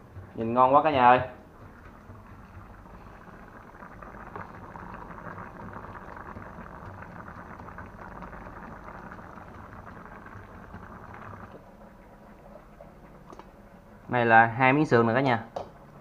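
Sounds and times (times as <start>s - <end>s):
food simmering and bubbling: 0.0s - 16.0s.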